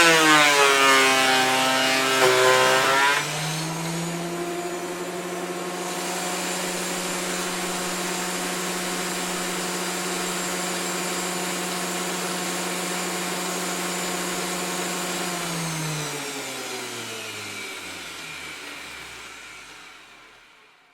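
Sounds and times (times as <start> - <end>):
electric planer running and spinning down: 0.0 - 20.8.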